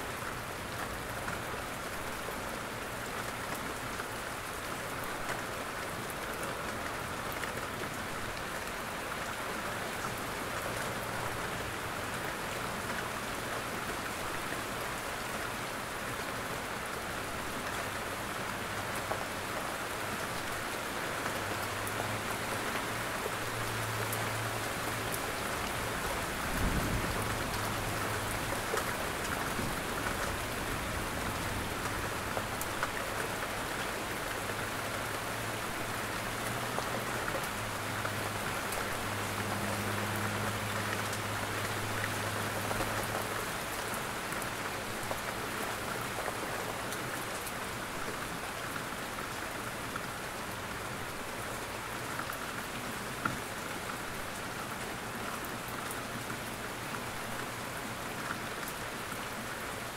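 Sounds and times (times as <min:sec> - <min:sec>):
rain on roof and foliage: 0:00.0 - 0:59.9.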